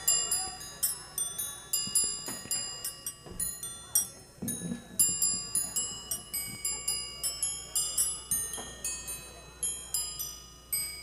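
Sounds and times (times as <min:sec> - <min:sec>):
bell-like tinkling melody: 0:00.0 - 0:11.0.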